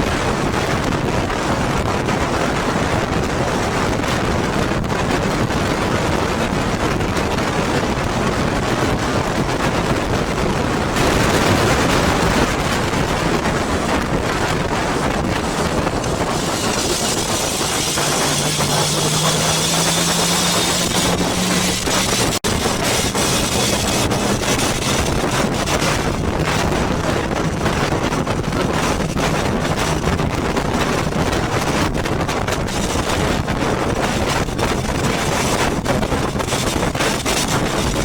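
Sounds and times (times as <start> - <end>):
motorcycle engine running: 0.0 - 38.0
wind rush on microphone: 0.0 - 38.0.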